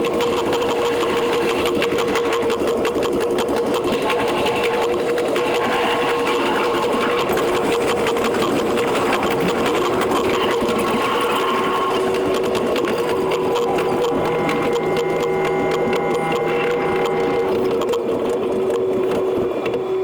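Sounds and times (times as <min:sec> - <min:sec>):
train motor hum: 0:00.0 - 0:19.9
fast train wheel rattle: 0:00.0 - 0:20.0.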